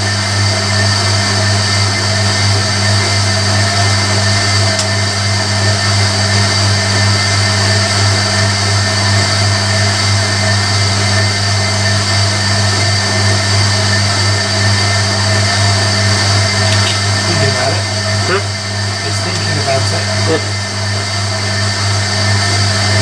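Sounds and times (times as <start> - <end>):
high whine: 0.0 - 23.0
washing machine motor hum: 0.0 - 23.0.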